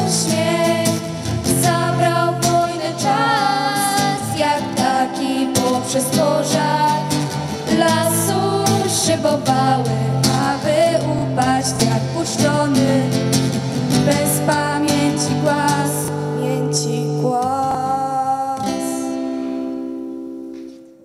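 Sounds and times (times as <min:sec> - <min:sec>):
young female voices singing: 0:00.0 - 0:13.2, 0:13.9 - 0:19.0
strummed acoustic guitar: 0:00.0 - 0:20.9.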